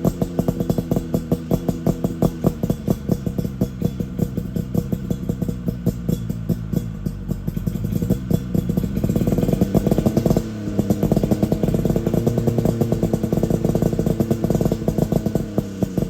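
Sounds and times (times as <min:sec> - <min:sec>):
two-stroke engine exhaust popping: 0:00.0 - 0:16.0.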